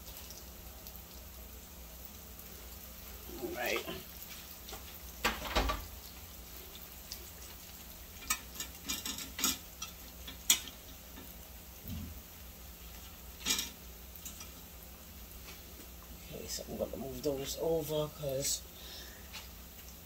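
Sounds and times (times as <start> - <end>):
oil sizzling in a skillet: 0.0 - 20.0.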